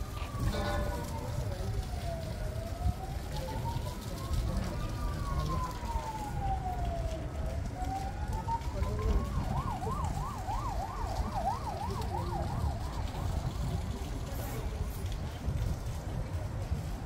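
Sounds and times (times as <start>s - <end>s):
emergency vehicle siren: 0.0s - 17.0s.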